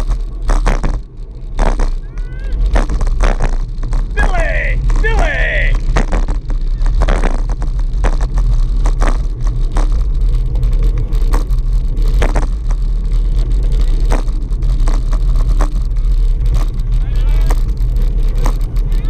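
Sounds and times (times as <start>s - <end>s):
bicycle knocks and rattles: 0.0s - 4.1s, 5.9s - 19.0s.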